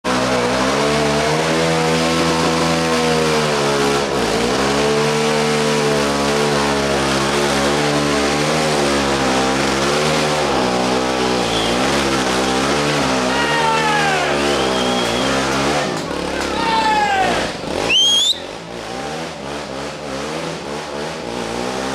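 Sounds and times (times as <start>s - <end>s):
atv engine running hard: 0.0s - 21.9s.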